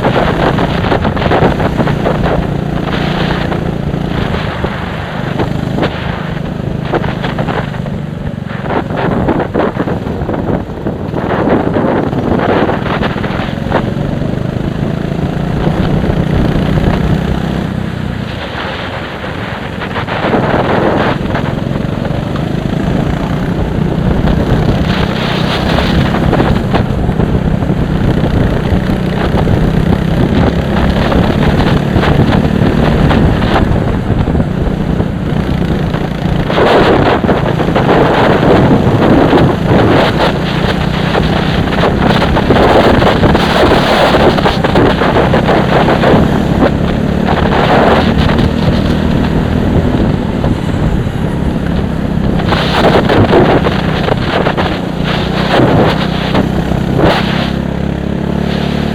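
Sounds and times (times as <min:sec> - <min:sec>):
racing car engine at speed: 0:00.0 - 0:58.9
wind buffeting microphone: 0:00.0 - 0:58.9.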